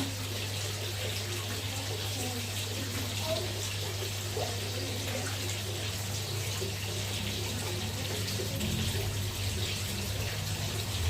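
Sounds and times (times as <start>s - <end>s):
water pouring into pond: 0.0s - 11.0s.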